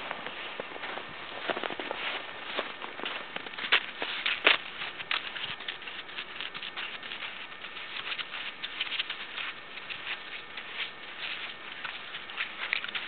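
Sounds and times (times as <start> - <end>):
footsteps on gravel: 0.0 - 13.0
pony hooves on gravel: 0.0 - 13.0.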